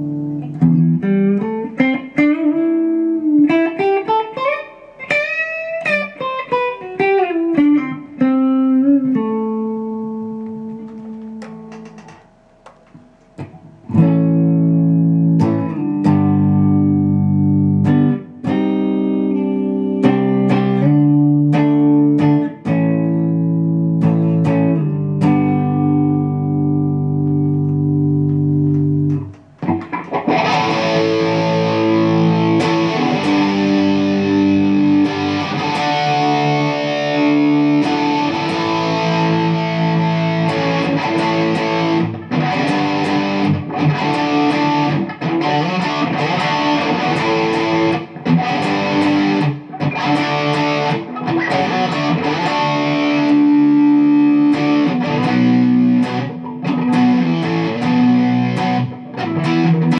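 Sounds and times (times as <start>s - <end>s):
distorted electric guitar: 0.0s - 59.9s.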